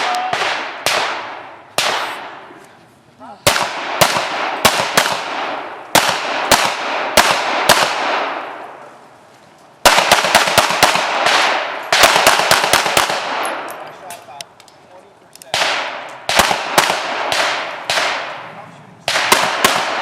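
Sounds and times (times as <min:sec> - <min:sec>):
pistol shots with long echo: 0:00.0 - 0:02.5, 0:03.4 - 0:08.8, 0:09.8 - 0:13.8, 0:15.5 - 0:20.0.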